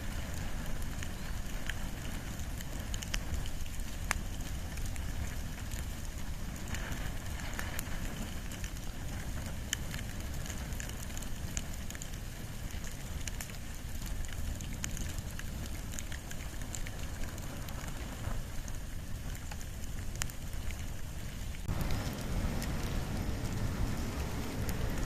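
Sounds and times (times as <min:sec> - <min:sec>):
bonfire crackling and popping: 0:00.0 - 0:25.0.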